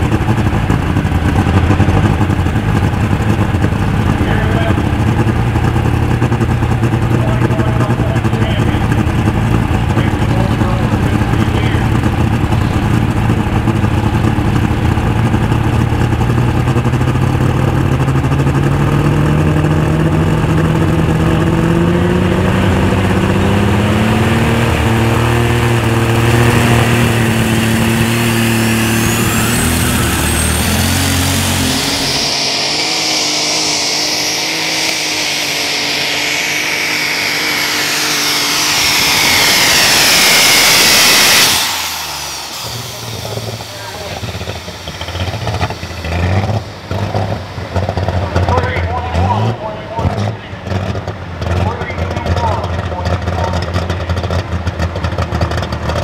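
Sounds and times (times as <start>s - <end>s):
high whine: 0.0s - 50.0s
tractor engine at full throttle: 0.0s - 56.0s.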